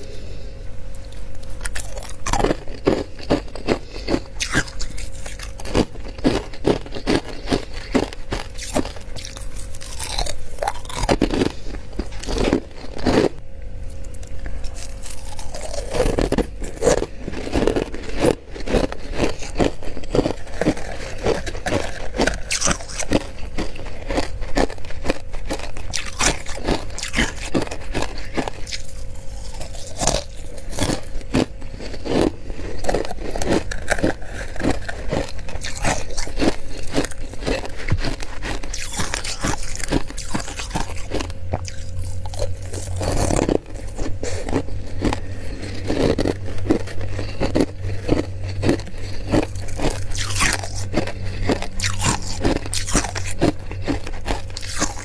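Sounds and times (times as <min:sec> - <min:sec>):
chewing crunchy ice: 0:00.0 - 0:55.0
low hum: 0:00.0 - 0:55.0.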